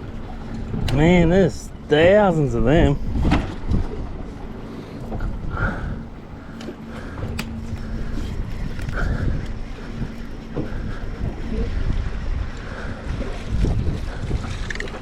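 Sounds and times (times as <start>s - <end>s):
faint steady hum: 0.0s - 14.2s
boat engine rumble: 0.0s - 15.0s
wind buffeting microphone: 0.0s - 15.0s.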